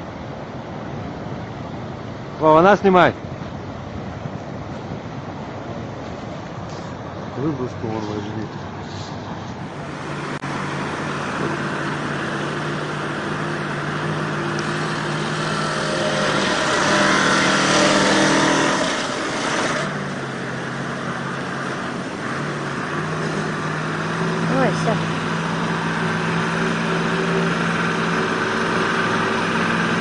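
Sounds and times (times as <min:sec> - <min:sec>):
rushing river water: 0:00.0 - 0:30.0
truck engine labouring: 0:00.0 - 0:30.0.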